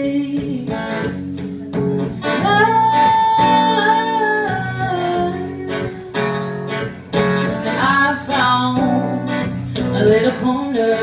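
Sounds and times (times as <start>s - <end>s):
strummed guitar: 0.0s - 11.0s.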